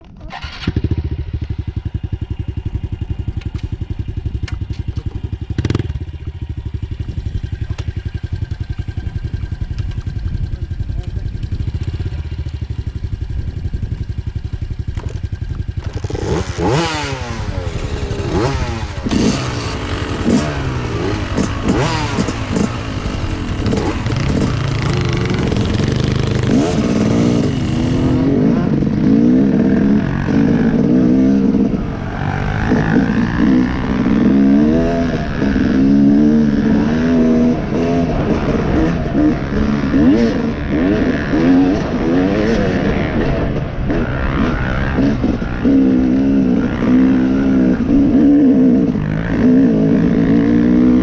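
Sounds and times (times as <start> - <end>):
dirt bike engine idling and revving: 0.0 - 51.0.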